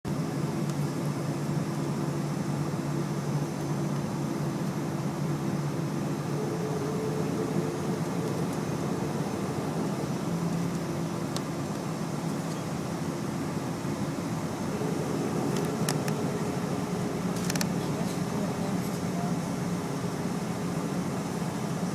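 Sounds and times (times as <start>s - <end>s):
jet engines droning: 0.1s - 21.9s.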